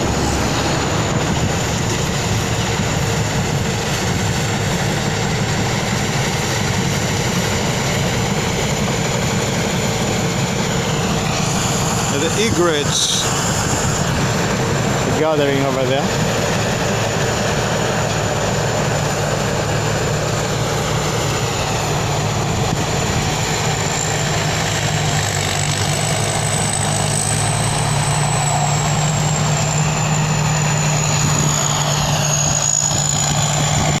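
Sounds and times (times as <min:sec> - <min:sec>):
combine harvester engine hum: 0:00.0 - 0:34.0
high whine: 0:00.0 - 0:34.0.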